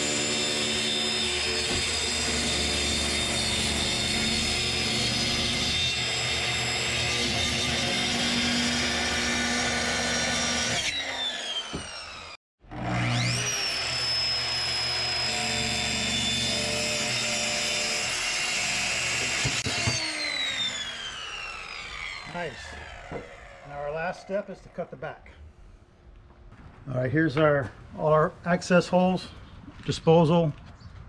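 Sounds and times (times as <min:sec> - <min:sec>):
circular saw cutting: 0:00.0 - 0:25.1
saw blade whine: 0:00.0 - 0:25.4.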